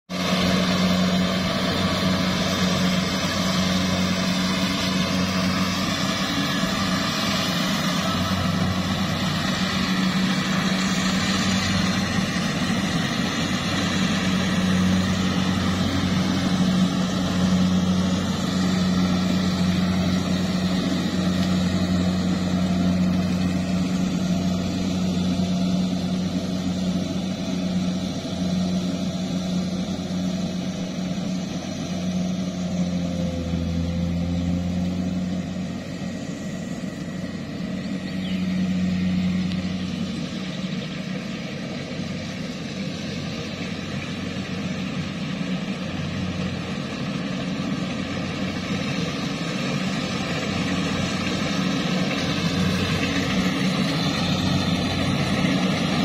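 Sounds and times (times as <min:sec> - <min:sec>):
combine harvester engine droning: 0:00.1 - 0:56.0.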